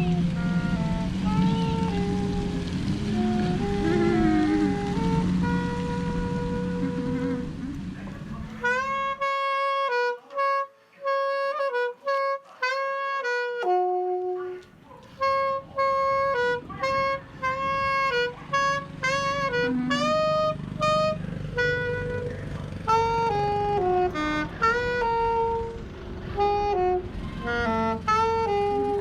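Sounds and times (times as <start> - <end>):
solo wind instrument melody: 0.0 - 29.0.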